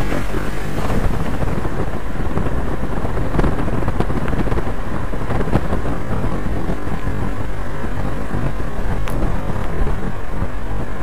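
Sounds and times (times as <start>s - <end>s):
vehicle running and road noise: 0.0s - 11.0s
wind buffeting microphone: 0.0s - 11.0s.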